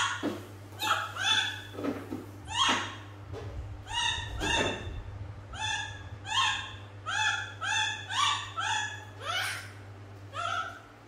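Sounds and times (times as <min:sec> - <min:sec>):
monkey high-pitched calls: 0:00.0 - 0:01.9, 0:02.5 - 0:03.1, 0:03.8 - 0:11.0.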